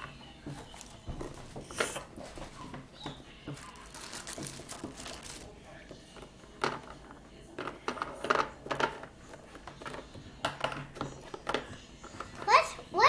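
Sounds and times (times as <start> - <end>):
fidget toys clattering and clicking: 0.0 - 12.9.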